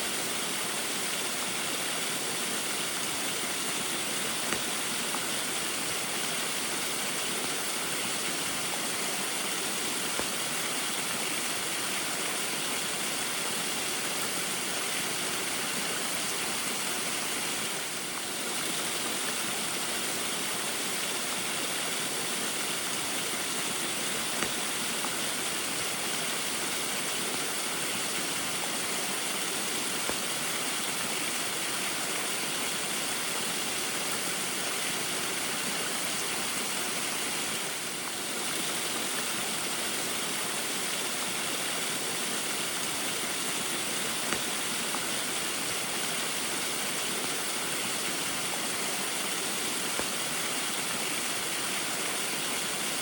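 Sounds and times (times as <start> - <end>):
small waterfall rushing: 0.0 - 53.0.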